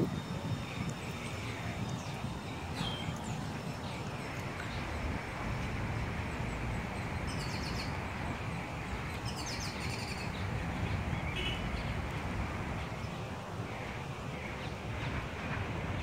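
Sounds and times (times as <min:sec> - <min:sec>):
small birds chirping: 0:00.1 - 0:14.8.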